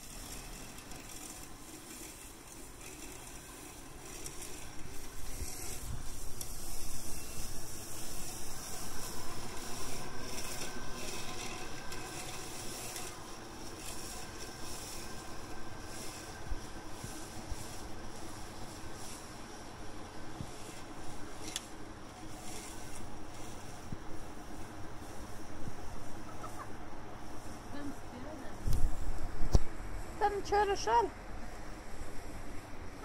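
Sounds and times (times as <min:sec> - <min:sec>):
robotic mower blade whirring: 0:00.0 - 0:33.0.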